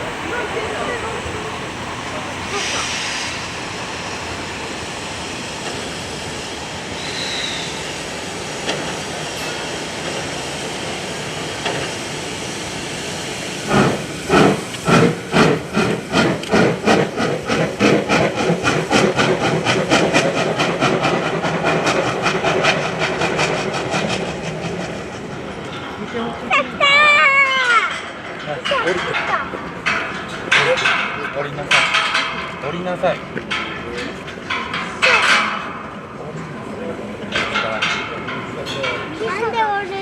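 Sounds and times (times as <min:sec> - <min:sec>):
steam locomotive hissing: 0:00.0 - 0:40.0.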